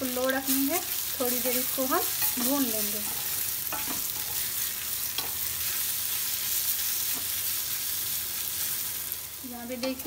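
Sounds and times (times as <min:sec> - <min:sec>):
mango sizzling in oil: 0:00.0 - 0:10.0.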